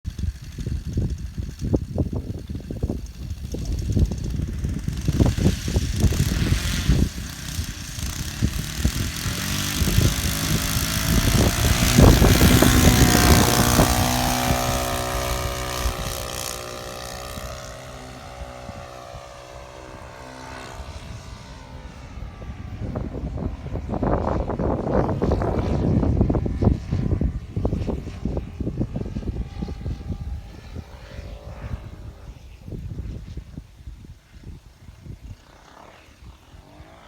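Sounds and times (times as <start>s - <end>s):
model plane engine flying by: 0.1s - 37.0s
wind buffeting microphone: 0.1s - 37.0s.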